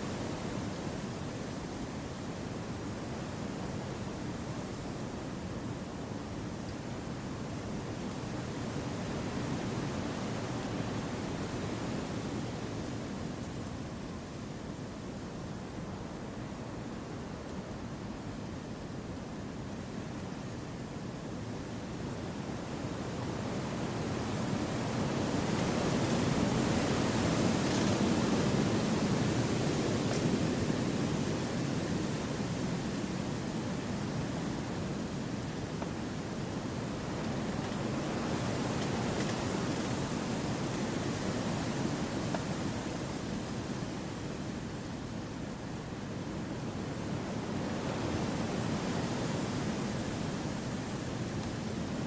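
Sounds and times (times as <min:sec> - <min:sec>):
wind through trees: 0:00.0 - 0:52.0.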